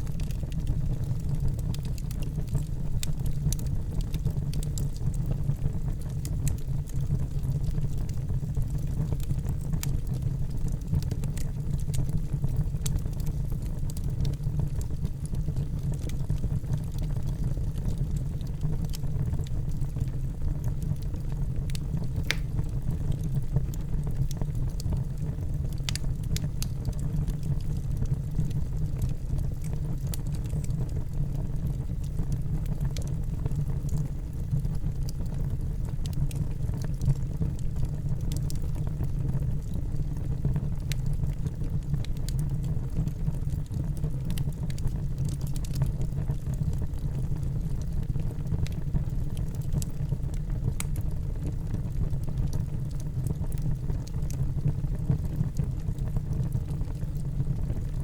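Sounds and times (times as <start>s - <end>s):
fire crackles and pops: 0.0s - 58.0s
low rumble of flames: 0.0s - 58.0s.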